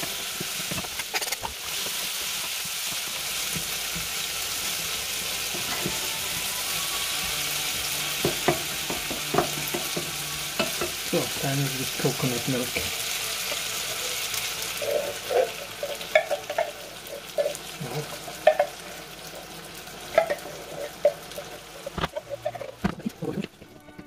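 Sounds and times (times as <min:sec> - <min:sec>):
pork sizzling in a pan: 0:00.0 - 0:23.5.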